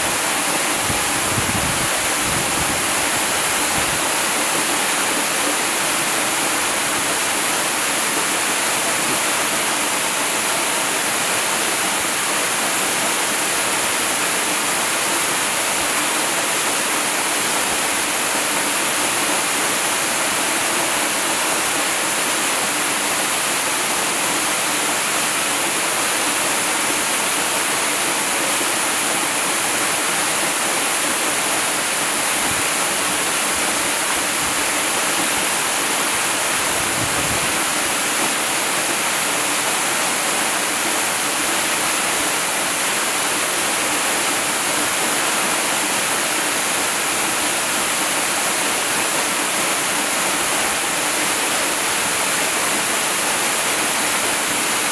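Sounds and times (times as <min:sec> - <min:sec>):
waterfall rushing onto rocks: 0:00.0 - 0:54.9.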